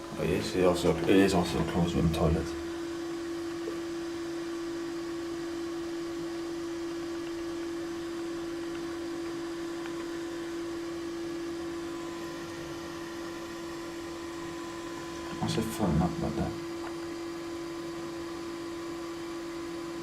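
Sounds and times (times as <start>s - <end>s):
fill valve humming: 0.0s - 20.0s.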